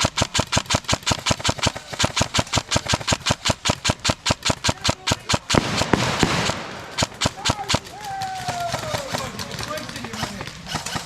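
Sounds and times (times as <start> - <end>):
airsoft rifle automatic fire: 0.0 - 11.0.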